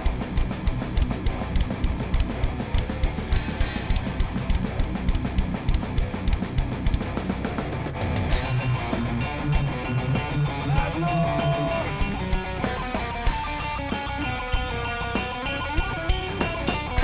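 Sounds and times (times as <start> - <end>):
electric guitar: 0.0 - 17.0
heavy metal band playing: 0.0 - 17.0
rapid drumming: 0.0 - 17.0.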